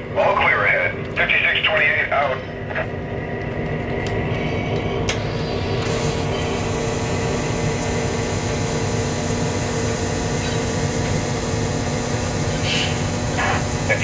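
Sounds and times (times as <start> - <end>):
constant low hum: 0.0 - 14.0
model train rumbling: 0.0 - 14.0.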